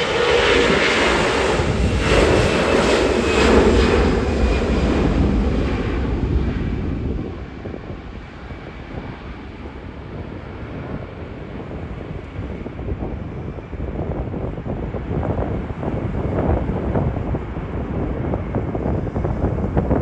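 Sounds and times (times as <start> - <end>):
airliner engines: 0.0 - 20.0
wind buffeting microphone: 0.0 - 20.0.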